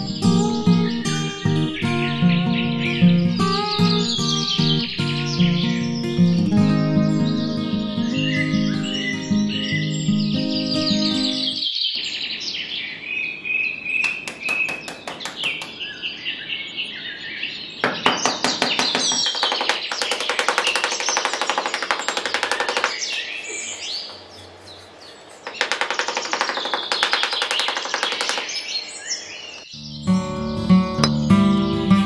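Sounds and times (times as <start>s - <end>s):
birds chirping and singing: 0.0s - 32.0s.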